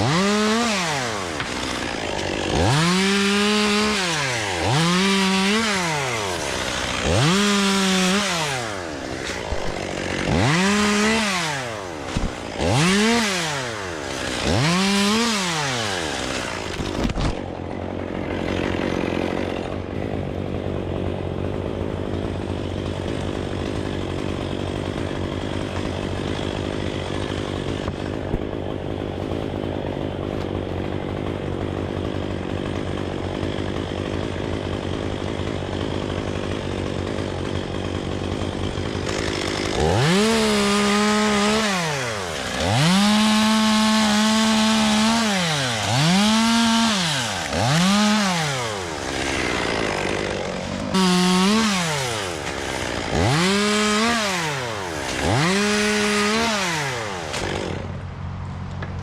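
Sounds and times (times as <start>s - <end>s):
chainsaw engine revving: 0.0s - 59.0s.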